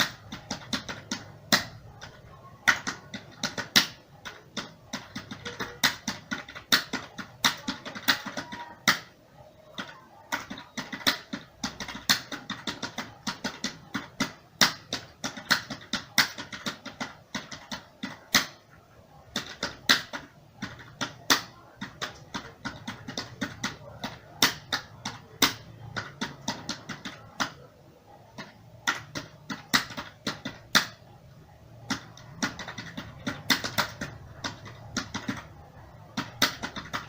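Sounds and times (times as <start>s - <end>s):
computer keyboard typing: 0.0s - 37.0s.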